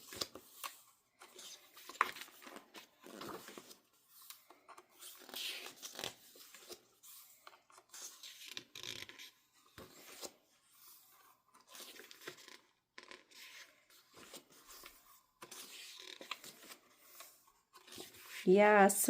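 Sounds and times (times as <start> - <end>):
pages rustling and scraping: 0.0 - 18.5.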